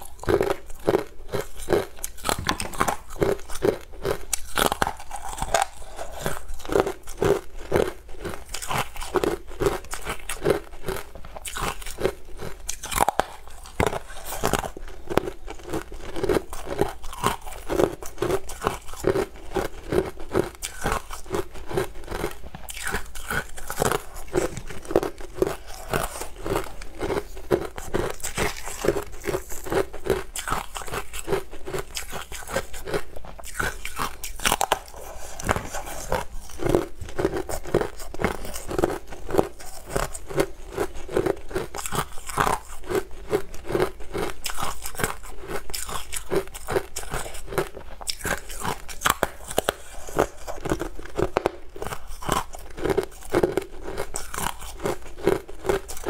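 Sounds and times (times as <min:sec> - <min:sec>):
crisp crunching chewing: 0:00.0 - 0:56.0.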